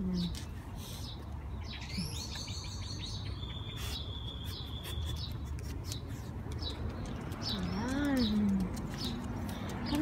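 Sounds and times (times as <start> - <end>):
birds calling: 0.0 - 10.0.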